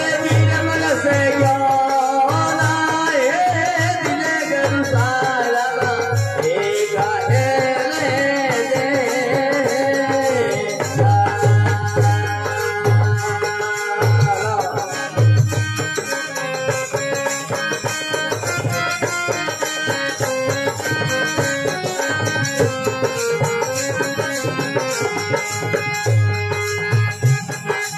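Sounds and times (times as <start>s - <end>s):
man singing: 0.0s - 26.6s
harmonium: 0.0s - 27.9s.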